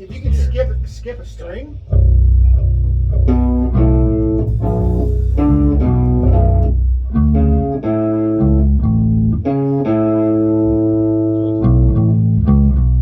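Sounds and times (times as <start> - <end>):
guitar riff: 0.0 - 13.0.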